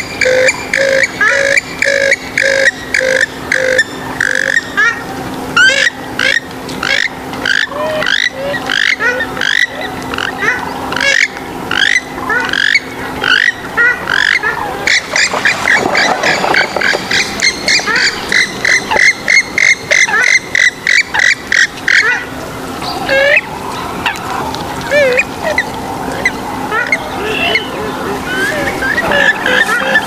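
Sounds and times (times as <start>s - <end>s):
water bird calls: 0.0s - 30.0s.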